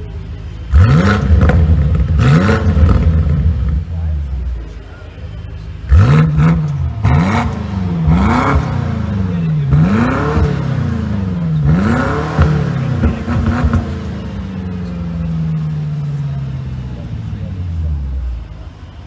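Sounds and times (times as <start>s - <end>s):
car engine revving hard: 0.6s - 19.0s.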